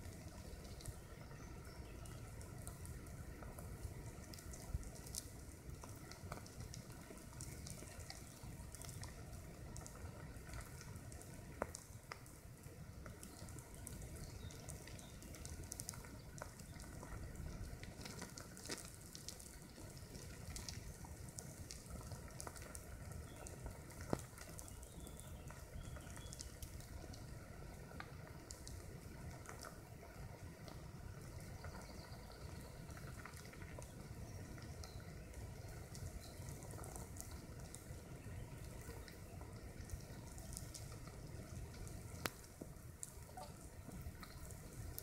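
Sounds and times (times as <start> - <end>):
ants crawling crackling hiss: 0.0 - 45.0.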